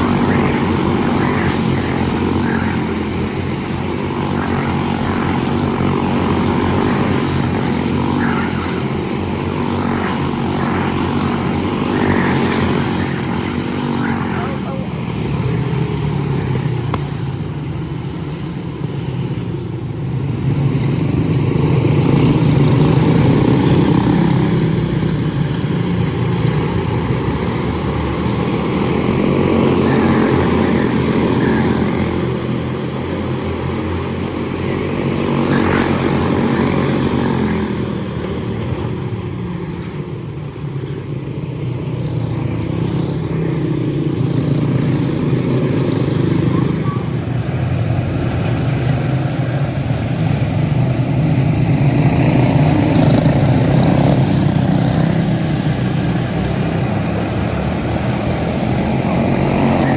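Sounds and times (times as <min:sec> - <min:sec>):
small race car engines: 0:00.0 - 0:59.9.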